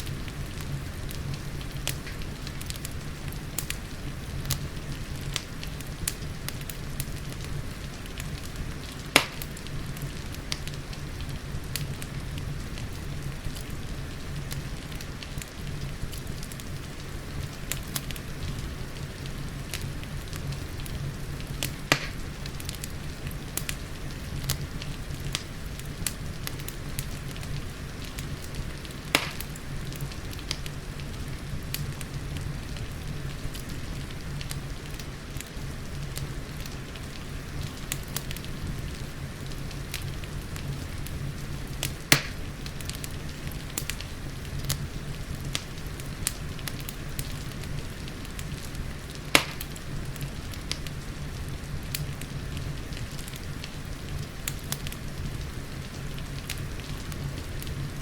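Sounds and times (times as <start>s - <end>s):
rain: 0.0s - 58.0s
wood fire crackling and popping: 0.0s - 58.0s.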